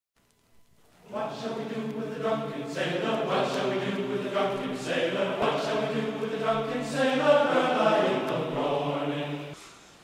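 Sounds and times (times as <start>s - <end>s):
voices singing chant-like chorus: 1.0s - 9.6s.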